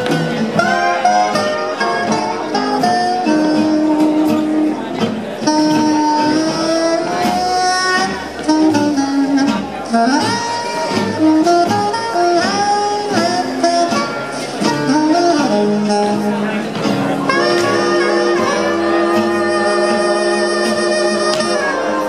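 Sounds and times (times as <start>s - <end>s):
swing jazz band: 0.0s - 22.0s.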